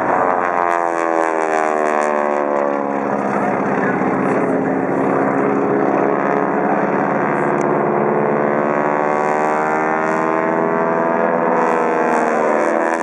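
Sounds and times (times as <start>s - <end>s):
radial engine planes droning overhead: 0.0s - 13.0s.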